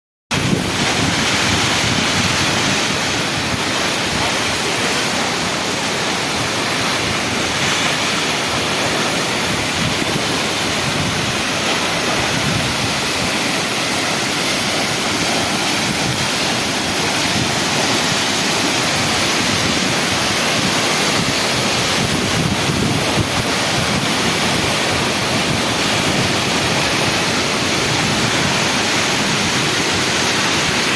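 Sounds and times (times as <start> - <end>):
waterfall rushing: 0.3 - 30.9.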